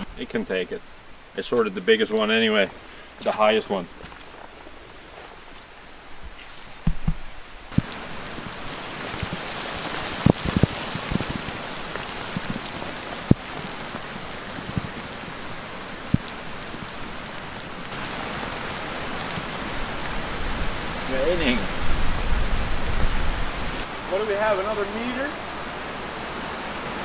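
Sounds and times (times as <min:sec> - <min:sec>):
heavy rain on foliage: 0:00.0 - 0:27.0.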